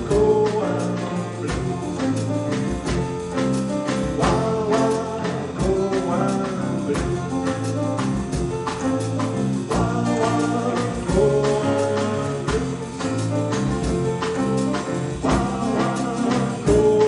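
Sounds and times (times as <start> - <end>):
percussion strokes: 0.0 - 17.0
steady bass line: 0.0 - 17.0.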